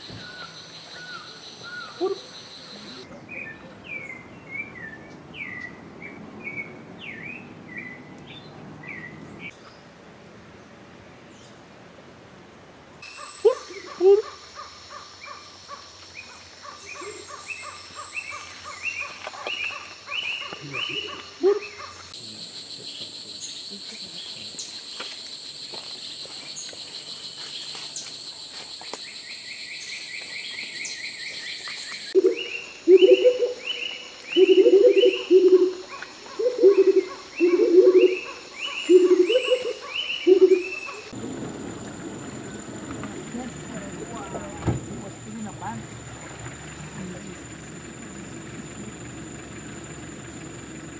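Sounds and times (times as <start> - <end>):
birds rising chirps: 0.0 - 9.9, 13.0 - 50.9.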